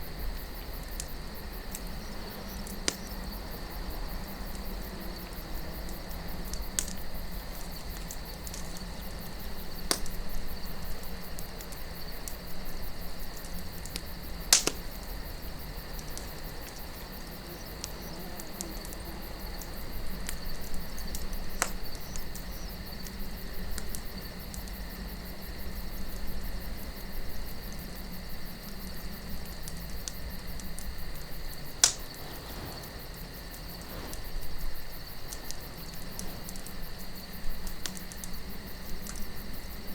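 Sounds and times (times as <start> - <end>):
campfire crackling: 0.0 - 39.9
crickets chirring: 0.0 - 39.9
soft wind: 0.0 - 39.9.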